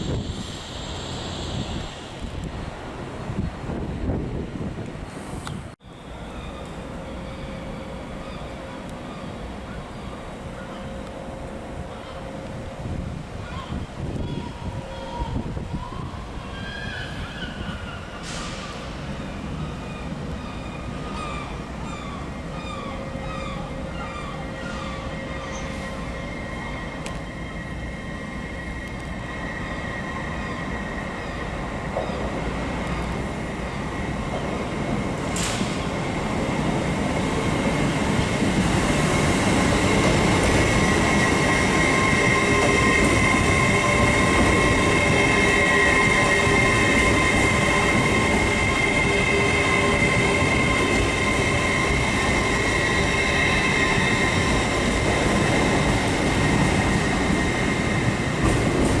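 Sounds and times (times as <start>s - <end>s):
passenger train rumbling: 0.0s - 59.0s.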